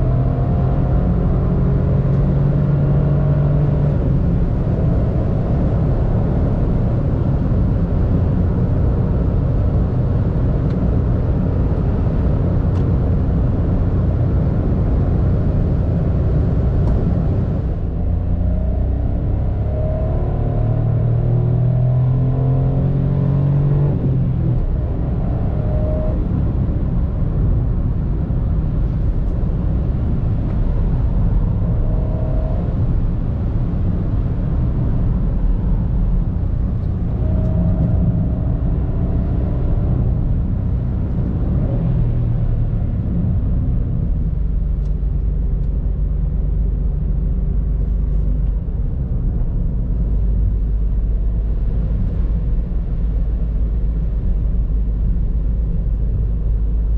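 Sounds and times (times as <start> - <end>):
car engine rumble from inside: 0.0 - 56.9.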